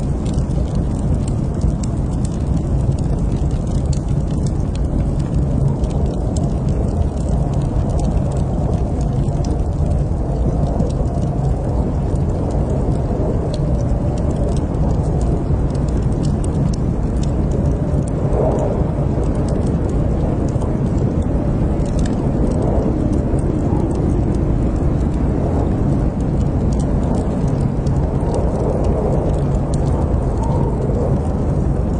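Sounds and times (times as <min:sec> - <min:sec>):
low fire rumble: 0:00.0 - 0:31.9
wood fire crackling: 0:00.0 - 0:31.9.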